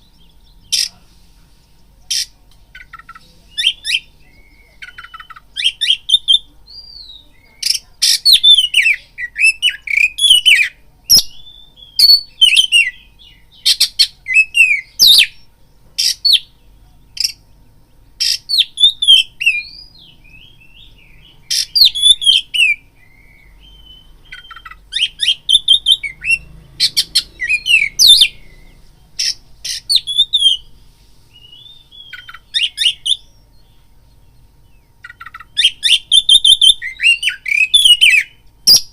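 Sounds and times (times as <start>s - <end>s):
bird whistling and chattering: 0.0s - 1.0s, 2.0s - 16.5s, 18.2s - 30.7s, 31.4s - 33.4s, 35.0s - 38.9s.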